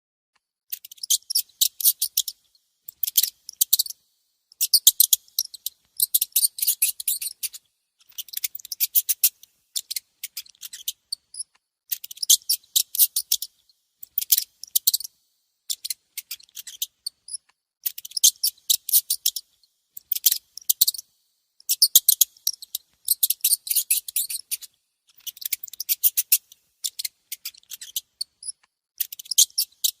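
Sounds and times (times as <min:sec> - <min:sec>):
mice clicking chatter: 0:00.7 - 0:04.0, 0:04.6 - 0:30.0
faint mouse squeaks: 0:00.7 - 0:30.0.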